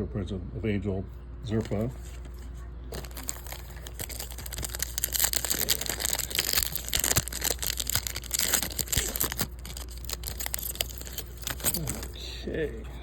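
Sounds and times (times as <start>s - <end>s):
card pack wrapper crinkling and tearing: 1.5s - 12.2s.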